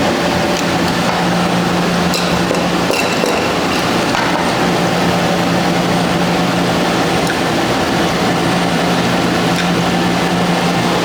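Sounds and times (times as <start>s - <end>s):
loud machinery hum: 0.0s - 11.0s.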